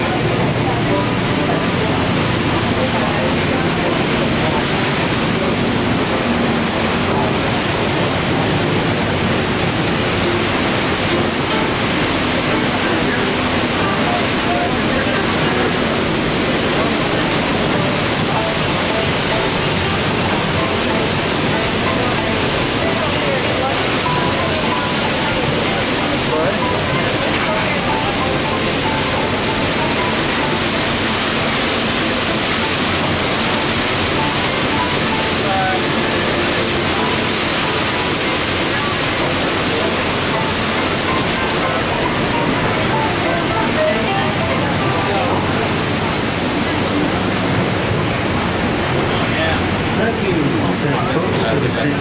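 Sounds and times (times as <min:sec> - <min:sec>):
paddlewheel churning river water: 0:00.0 - 0:52.0.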